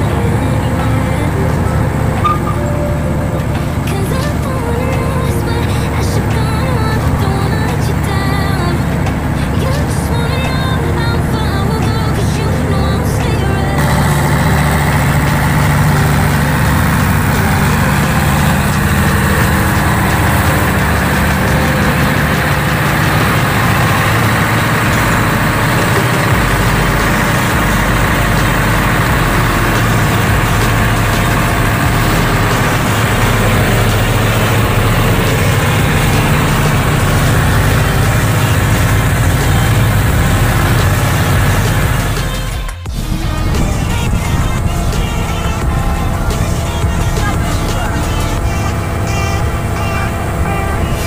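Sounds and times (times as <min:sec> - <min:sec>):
diesel engine hum idling: 0:00.0 - 0:51.0.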